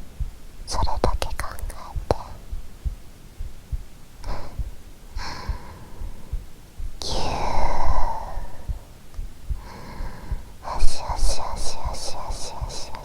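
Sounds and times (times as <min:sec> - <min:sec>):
heartbeat thumping: 0:00.0 - 0:13.0
soft breaths: 0:00.0 - 0:13.0.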